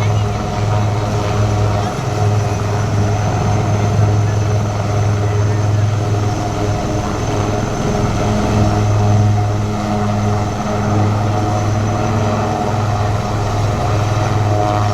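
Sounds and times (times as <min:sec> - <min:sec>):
helicopter engine and rotor drone: 0:00.0 - 0:14.9.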